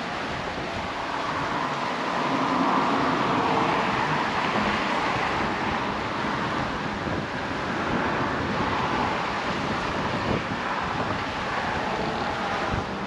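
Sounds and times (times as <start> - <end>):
choppy sea water: 0.0 - 13.0
road traffic on bridge: 0.0 - 13.0
wind on microphone: 0.0 - 13.0.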